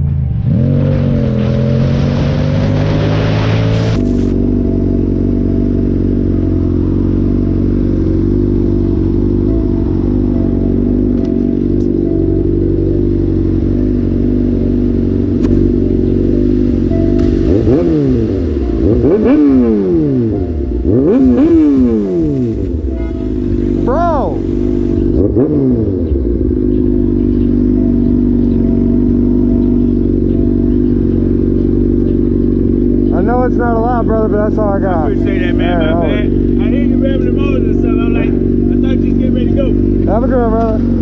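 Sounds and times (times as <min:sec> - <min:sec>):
motorcycle engine idling and revving: 0:00.0 - 0:41.0.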